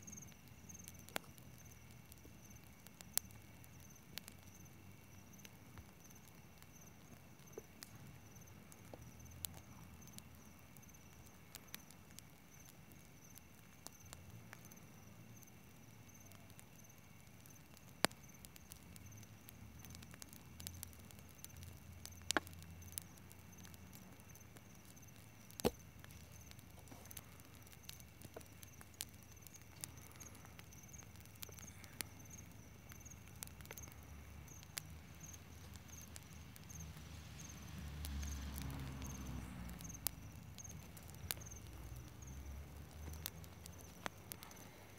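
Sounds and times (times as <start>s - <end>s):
campfire crackling and popping: 0.0s - 44.9s
crickets chirping: 0.0s - 44.9s.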